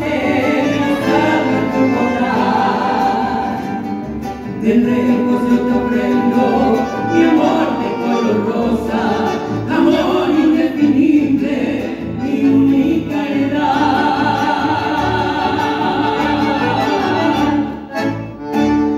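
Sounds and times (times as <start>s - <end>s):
woman singing with vibrato: 0.0s - 3.9s, 4.6s - 18.0s
bandoneon: 0.0s - 13.8s, 15.1s - 18.9s
acoustic guitar: 0.0s - 18.9s.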